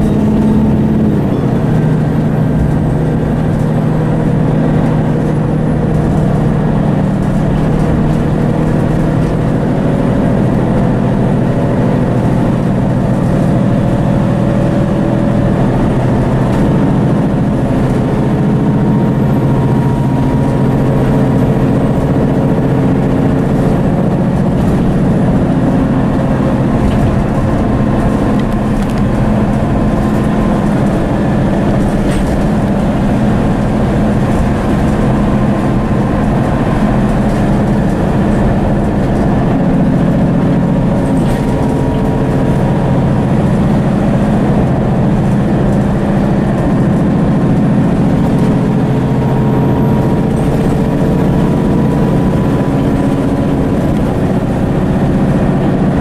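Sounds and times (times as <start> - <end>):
diesel bus engine running: 0.0 - 56.0
road and body rumble: 0.0 - 56.0.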